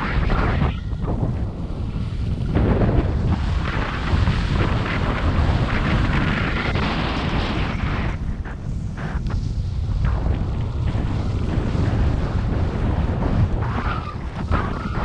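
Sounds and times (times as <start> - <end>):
snow sliding hiss: 0.0 - 15.0
wind buffeting microphone: 0.0 - 15.0.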